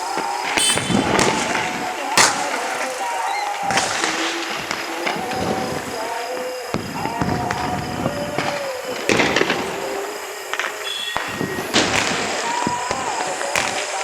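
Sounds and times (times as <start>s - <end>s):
distant firecracker noise: 0.0s - 14.0s
firecrackers bursting with sharp bangs: 0.0s - 14.0s.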